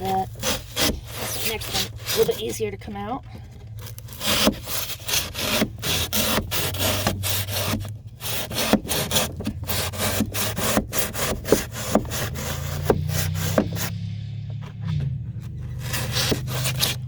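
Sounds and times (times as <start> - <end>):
knife sawing through foam: 0.0 - 2.8, 3.8 - 13.9, 15.7 - 17.0
steady low hum: 0.0 - 17.0.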